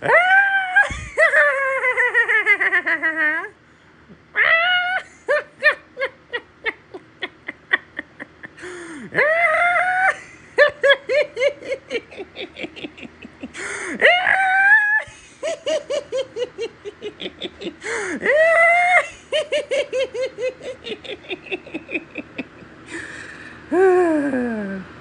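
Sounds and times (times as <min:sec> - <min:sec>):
wheezing squealing laugh: 0:00.0 - 0:03.6, 0:04.3 - 0:24.8.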